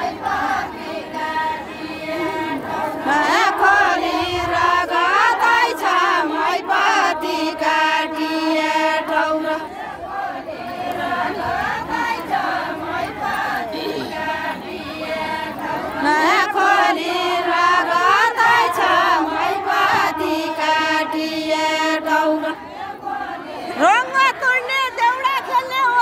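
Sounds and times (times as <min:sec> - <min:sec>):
women singing folk song: 0:00.0 - 0:26.0.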